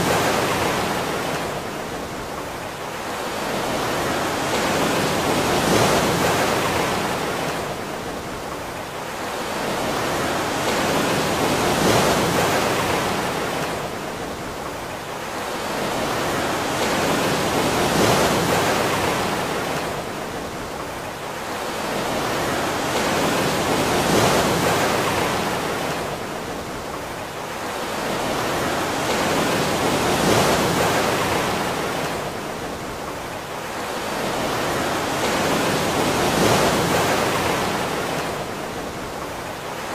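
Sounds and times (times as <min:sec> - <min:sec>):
ocean surf: 0:00.0 - 0:39.9.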